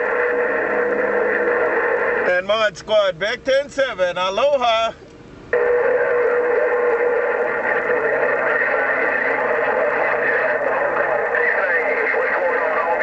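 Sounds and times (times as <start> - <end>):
garbled radio transmission: 0.0 - 13.0.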